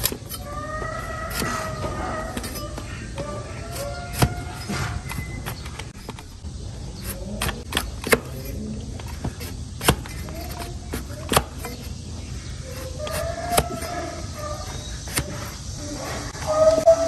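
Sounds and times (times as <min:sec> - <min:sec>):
hoof-trimming tools clicking: 0:00.0 - 0:16.9.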